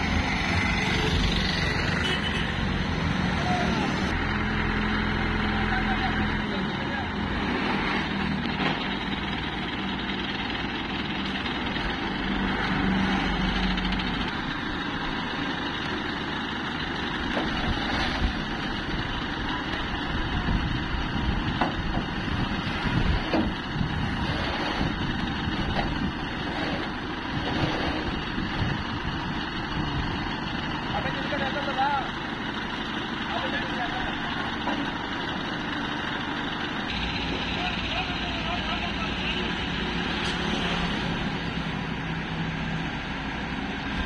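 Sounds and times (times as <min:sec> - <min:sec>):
crane diesel engine running: 0:00.0 - 0:44.0.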